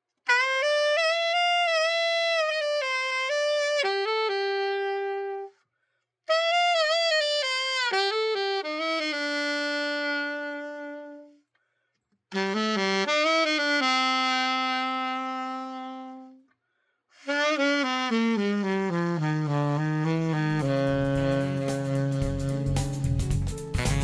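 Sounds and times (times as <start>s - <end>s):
alto saxophone solo: 0.2s - 5.6s, 6.2s - 11.6s, 12.3s - 24.0s.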